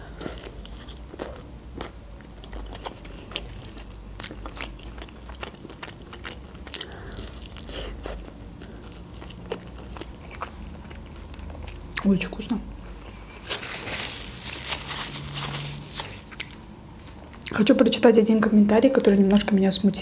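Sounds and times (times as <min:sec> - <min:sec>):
crunchy chewing: 0:00.0 - 0:12.1, 0:12.8 - 0:17.5.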